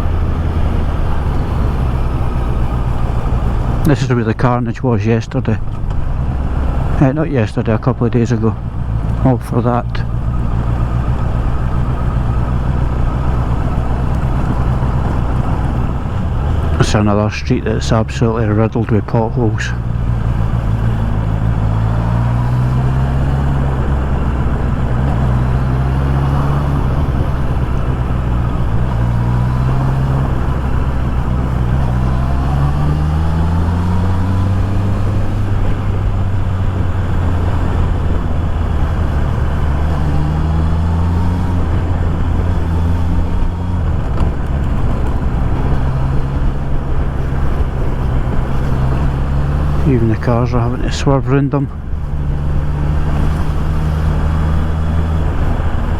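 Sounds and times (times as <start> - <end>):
motorcycle engine revving: 0.0 - 4.5, 5.6 - 55.9
road and wind noise: 0.0 - 55.9.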